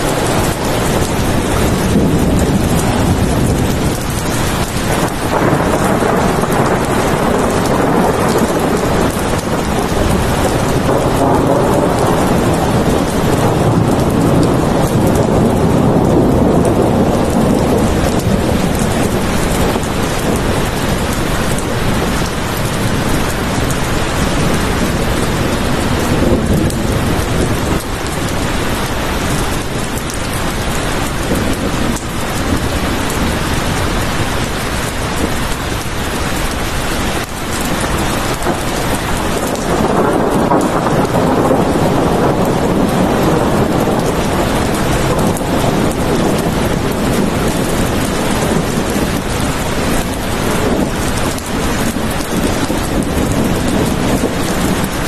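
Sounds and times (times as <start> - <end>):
heavy rain: 0.0 - 55.0
low rumble of thunder: 0.0 - 55.0.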